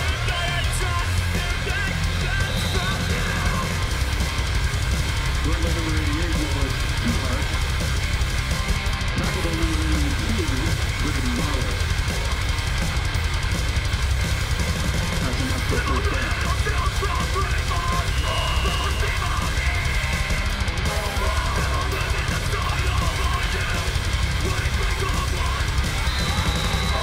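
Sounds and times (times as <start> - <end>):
heavy metal music: 0.0 - 27.0.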